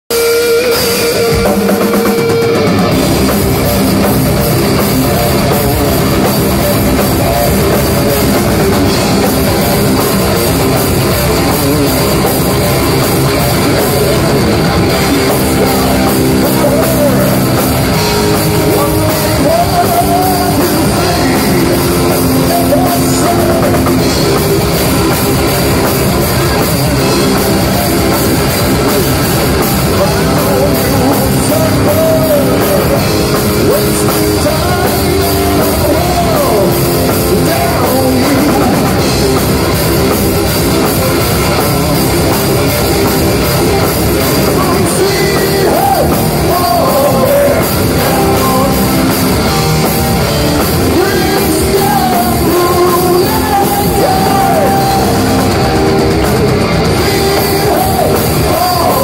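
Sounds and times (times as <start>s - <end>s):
bass guitar: 0.0s - 59.0s
distorted electric guitar riff: 0.1s - 59.0s
pounding drum kit: 0.1s - 59.0s.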